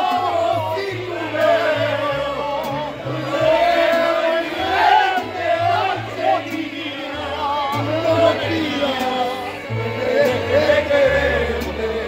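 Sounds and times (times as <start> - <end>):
bass notes: 0.0 - 12.0
man singing: 0.0 - 12.0
strummed guitar: 0.0 - 12.0.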